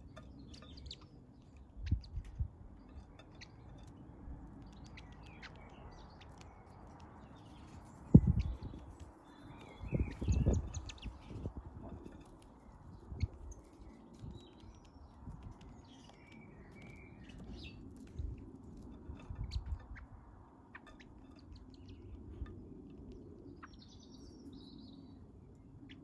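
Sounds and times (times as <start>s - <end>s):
birds chirping: 0.0s - 22.5s.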